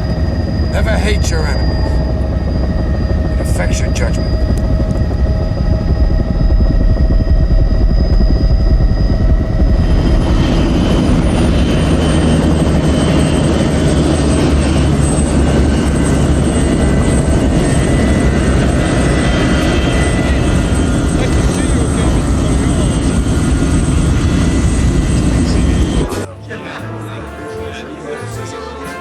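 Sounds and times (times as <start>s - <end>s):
faint high whine: 0.0s - 29.0s
helicopter rotor and engine: 0.0s - 29.0s.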